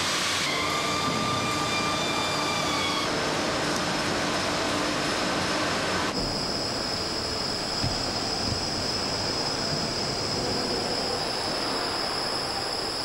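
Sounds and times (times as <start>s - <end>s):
machine running with whine: 0.6s - 13.0s.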